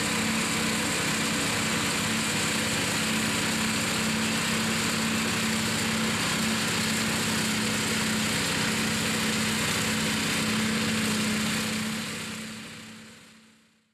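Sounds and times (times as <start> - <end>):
flail mower running: 0.0 - 13.6
quad bike engine: 0.0 - 13.6.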